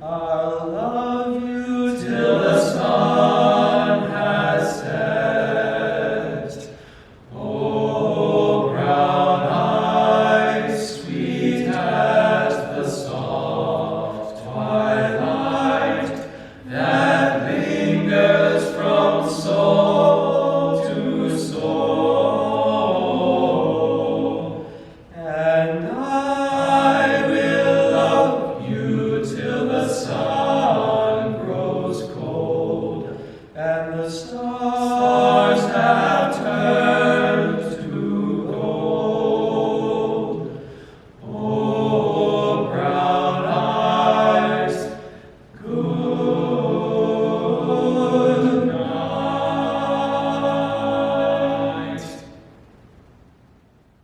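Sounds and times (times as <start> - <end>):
men singing a cappella: 0.0 - 52.3.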